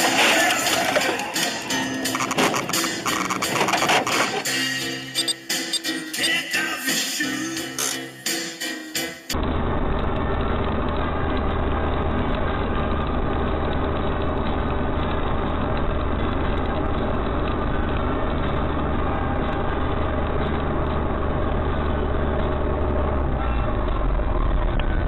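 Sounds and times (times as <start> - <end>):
vehicle engine humming: 0.0 - 6.6, 9.4 - 25.0.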